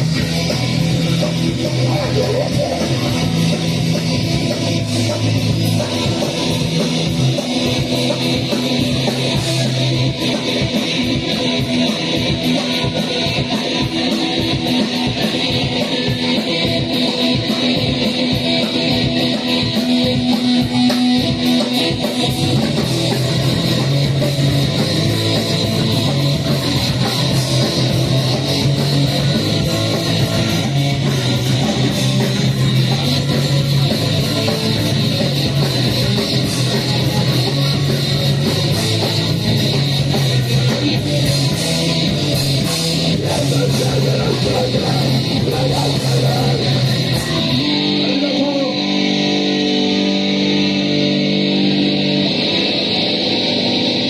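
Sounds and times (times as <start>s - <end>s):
fast drumming: 0.0s - 48.7s
bass guitar: 0.0s - 54.0s
distorted electric guitar: 0.0s - 54.0s.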